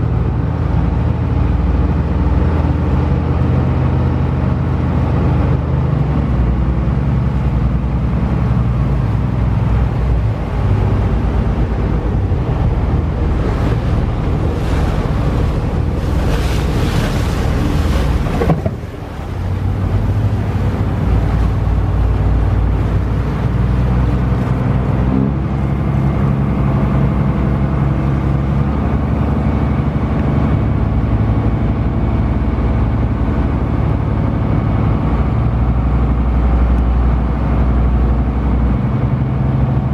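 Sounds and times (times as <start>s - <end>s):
ferry engine running: 0.0s - 39.9s
rush of wind or water: 0.0s - 39.9s.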